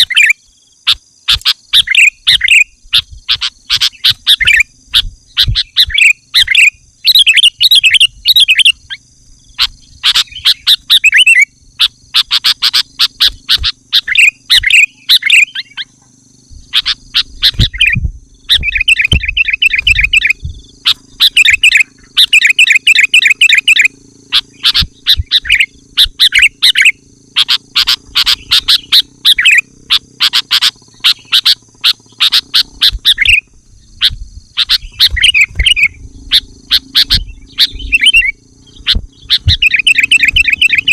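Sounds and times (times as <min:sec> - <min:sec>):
bulbuls chattering calls: 0:00.0 - 0:40.9.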